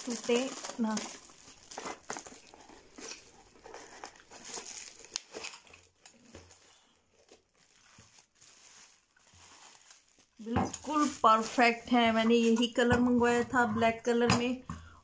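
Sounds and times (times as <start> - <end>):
bubble wrap crinkling: 0.0 - 12.8.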